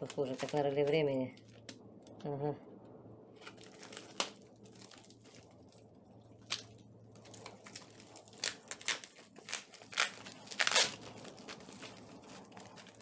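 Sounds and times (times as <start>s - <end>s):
plastic bag crinkling: 0.0s - 1.8s, 3.4s - 13.0s.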